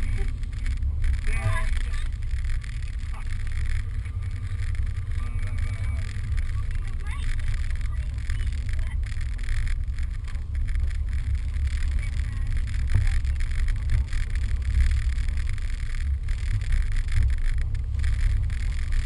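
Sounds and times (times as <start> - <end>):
car driving over snow: 0.0 - 19.0.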